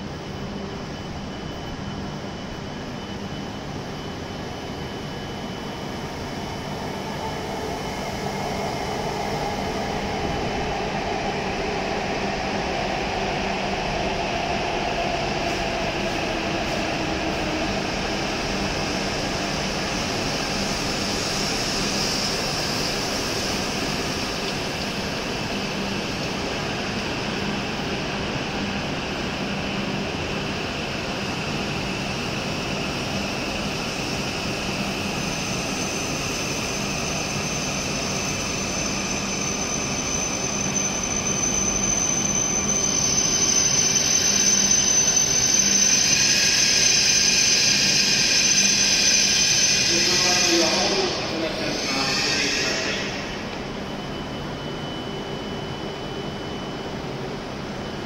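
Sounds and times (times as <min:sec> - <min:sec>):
train running past: 0:00.0 - 0:58.0.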